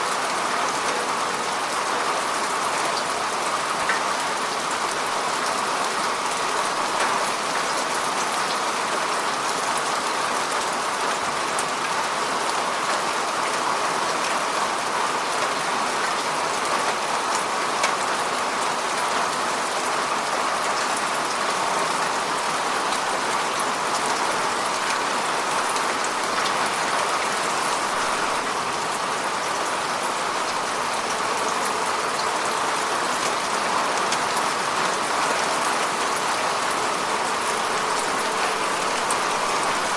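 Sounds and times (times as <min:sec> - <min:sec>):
rain falling on lake water: 0:00.0 - 0:39.9.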